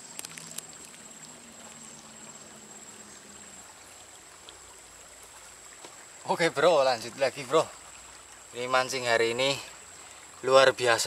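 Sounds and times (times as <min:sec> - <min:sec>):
shallow river flowing: 0:00.0 - 0:11.0.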